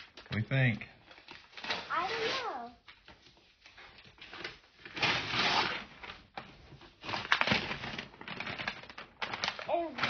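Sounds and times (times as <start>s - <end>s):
wrapping paper tearing: 1.0s - 3.0s, 3.6s - 10.0s.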